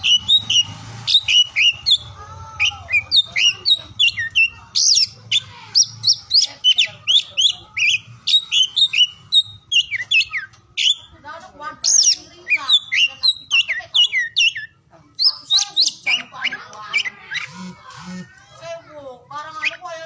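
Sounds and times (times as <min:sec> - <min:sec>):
magpie-robin singing: 0:00.0 - 0:18.4, 0:19.3 - 0:20.0.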